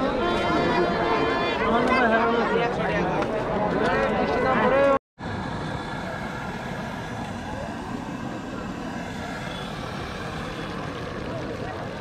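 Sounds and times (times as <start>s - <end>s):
faint crowd chatter: 0.0s - 5.0s, 5.9s - 12.0s.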